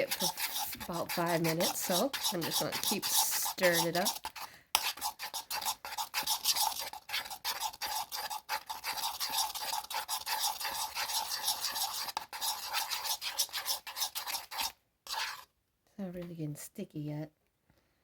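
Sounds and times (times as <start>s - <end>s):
utensil scraping through slime: 0.0s - 15.5s.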